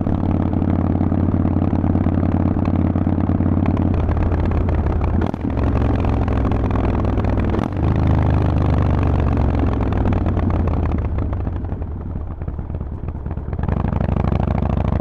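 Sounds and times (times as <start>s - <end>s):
motorcycle engine exhaust: 0.0s - 15.0s.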